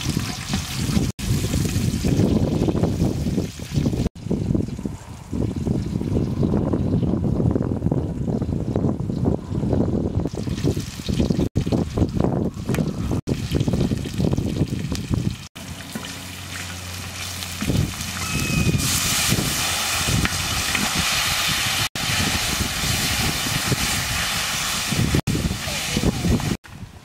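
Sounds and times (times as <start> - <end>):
liquid sizzling and bubbling: 0.0 - 26.6.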